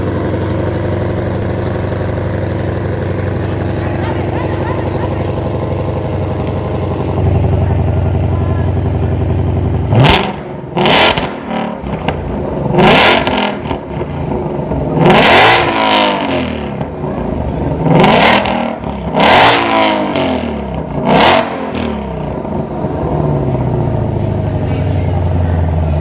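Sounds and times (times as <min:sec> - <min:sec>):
car engine revving from idle: 0:00.0 - 0:24.4.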